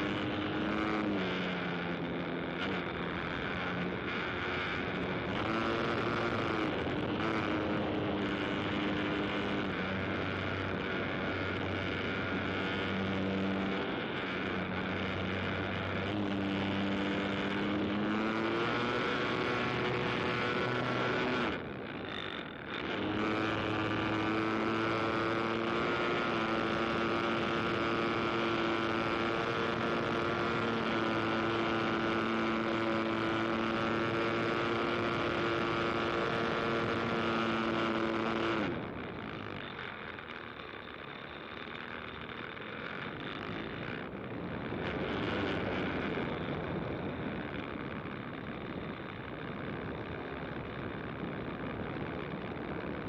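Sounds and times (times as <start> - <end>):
engine running: 0.0 - 53.0.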